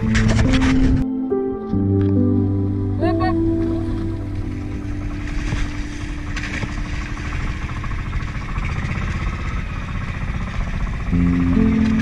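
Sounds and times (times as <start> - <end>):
small boat engine running: 2.2 - 12.0.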